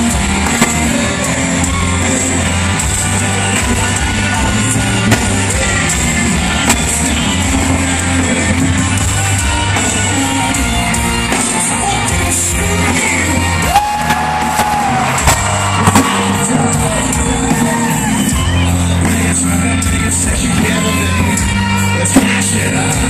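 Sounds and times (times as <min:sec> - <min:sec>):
drums: 0:00.0 - 0:23.0
electric guitars: 0:00.0 - 0:23.0
person singing: 0:00.0 - 0:23.0.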